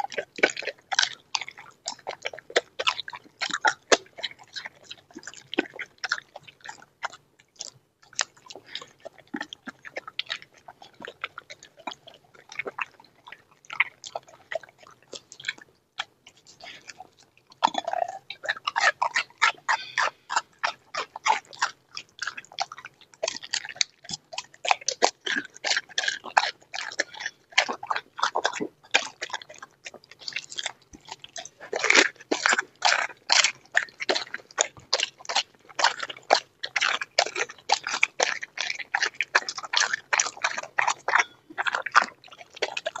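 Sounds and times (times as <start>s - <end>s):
dog chewing and crunching bones: 0.0s - 43.0s.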